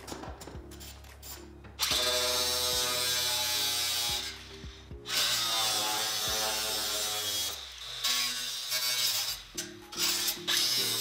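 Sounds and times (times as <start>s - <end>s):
background music: 0.0s - 11.0s
angle grinder cutting metal: 1.8s - 11.0s.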